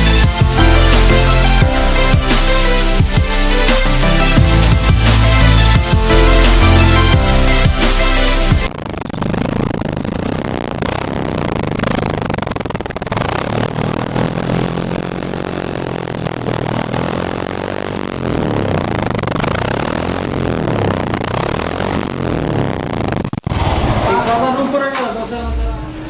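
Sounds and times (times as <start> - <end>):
motorcycle engine revving: 0.0 - 24.7.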